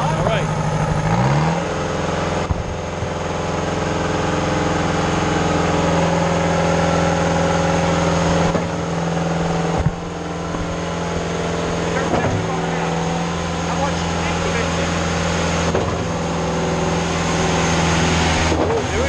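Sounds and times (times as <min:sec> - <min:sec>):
pump engine running: 0:00.0 - 0:19.0.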